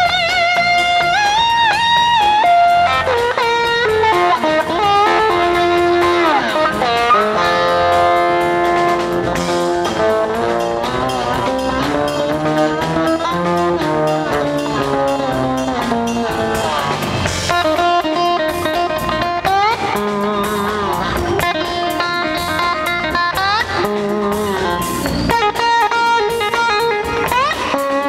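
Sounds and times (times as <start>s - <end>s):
bass: 0.0s - 28.0s
drums: 0.0s - 28.0s
electric guitar lead: 0.0s - 28.0s.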